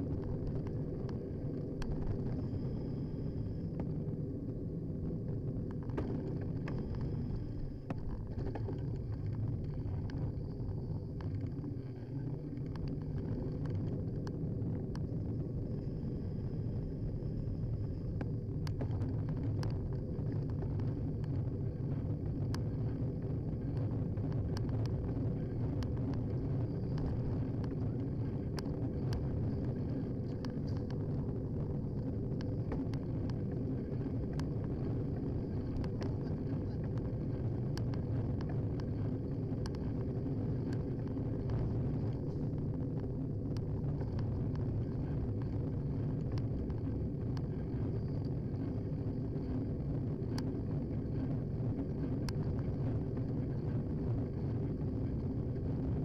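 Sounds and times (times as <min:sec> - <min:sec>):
bicycle road noise: 0:00.0 - 0:56.0
wind rumble: 0:00.0 - 0:56.0.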